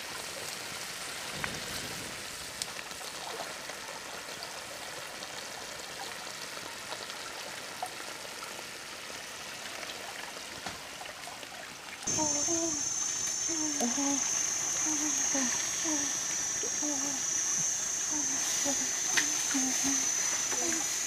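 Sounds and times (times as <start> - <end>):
food sizzling in a wok: 0.0 - 9.6, 12.1 - 21.0.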